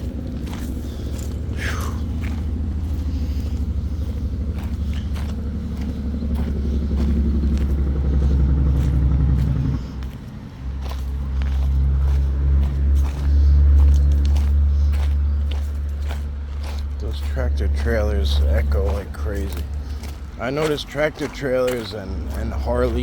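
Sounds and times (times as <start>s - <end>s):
distant road traffic rumble: 0.0s - 23.0s
footsteps on a trail: 0.0s - 23.0s.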